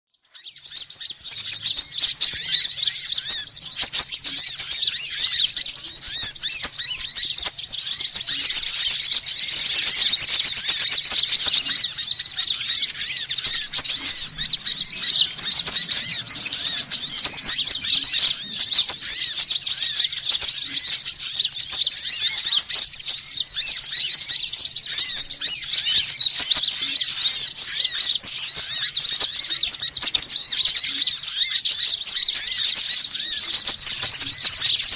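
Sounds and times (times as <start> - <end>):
small songbirds chirping: 0.1 - 34.9.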